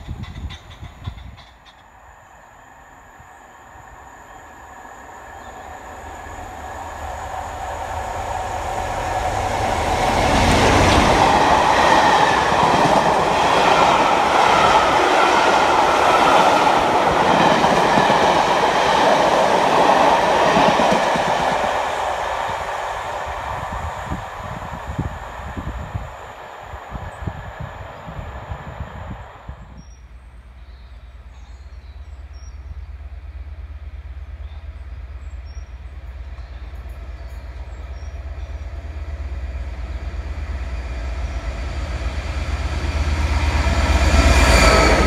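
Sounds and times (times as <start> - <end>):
passenger train passing: 0.0 - 45.0.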